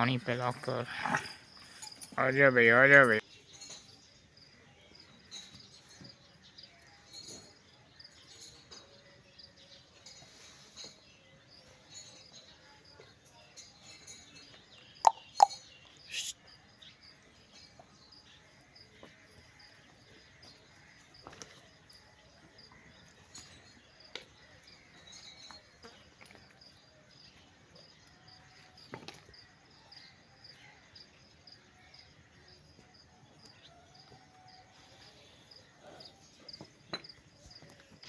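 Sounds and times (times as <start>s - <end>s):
insects chirping: 0.0s - 13.0s, 13.6s - 38.0s
birds chirping: 0.0s - 38.0s.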